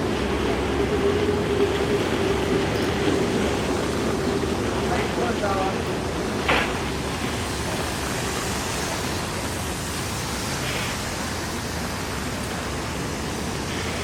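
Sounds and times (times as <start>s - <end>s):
heavy rain on street: 0.0s - 14.0s.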